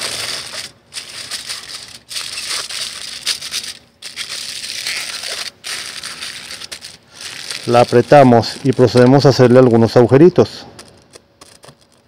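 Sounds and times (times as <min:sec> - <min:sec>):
aluminium foil crinkling: 0:00.0 - 0:10.2, 0:10.8 - 0:12.0.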